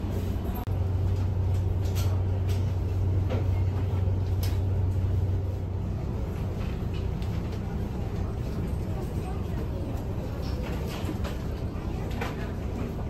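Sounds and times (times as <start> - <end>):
train interior hum: 0.0 - 13.0.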